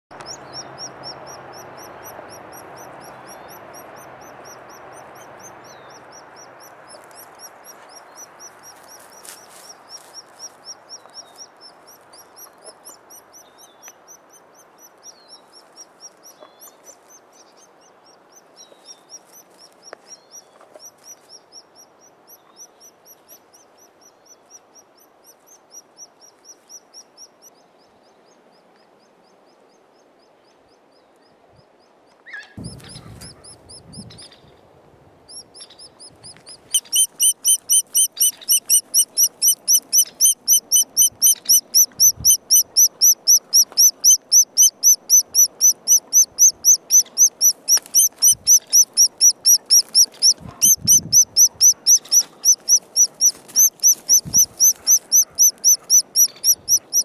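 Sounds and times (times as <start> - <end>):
woodpecker chick high chirps: 0.1 - 23.4, 32.3 - 34.4, 35.3 - 57.0.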